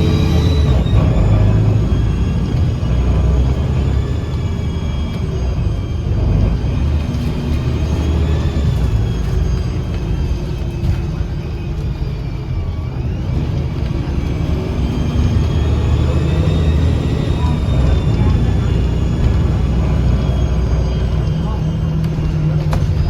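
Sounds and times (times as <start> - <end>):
bus engine low drone: 0.0 - 23.0
high whistling tones: 0.0 - 23.0.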